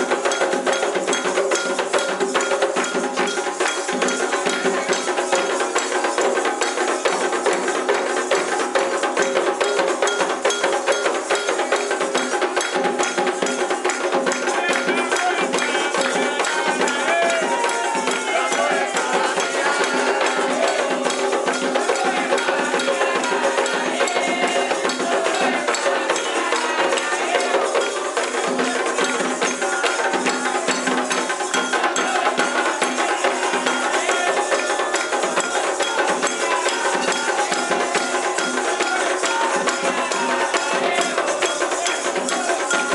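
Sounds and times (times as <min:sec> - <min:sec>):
fast hand percussion: 0:00.0 - 0:42.9
voices singing: 0:00.0 - 0:42.9.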